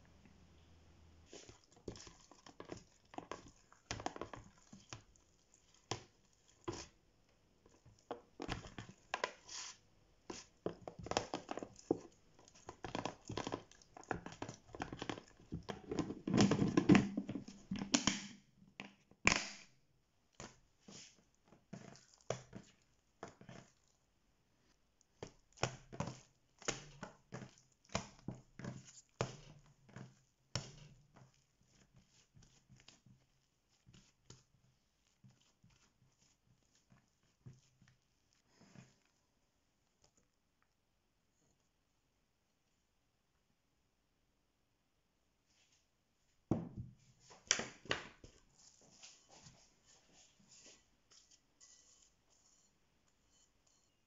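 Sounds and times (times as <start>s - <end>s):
hands working sticky dough: 0.1s - 54.0s.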